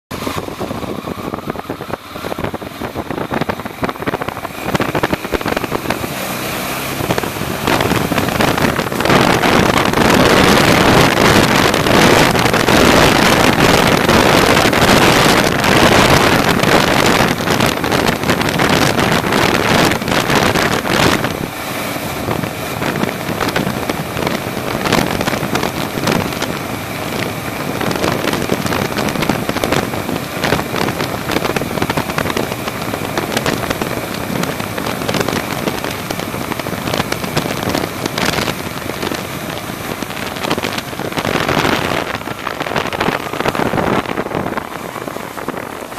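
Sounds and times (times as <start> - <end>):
motorcycle riding: 0.1 - 45.9
wind noise on microphone: 0.1 - 45.9.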